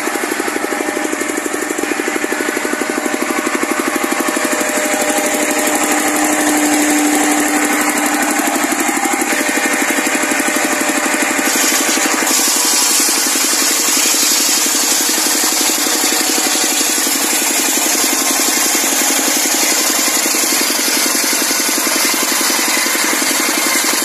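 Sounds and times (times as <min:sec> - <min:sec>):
circular saw rasping through wood: 0:00.0 - 0:24.0
diesel engine beating: 0:00.0 - 0:24.0.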